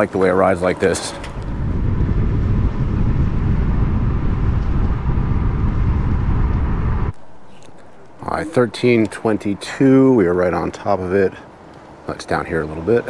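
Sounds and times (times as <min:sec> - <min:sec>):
wind buffeting microphone: 0:00.0 - 0:10.9
road rumble: 0:00.0 - 0:13.0.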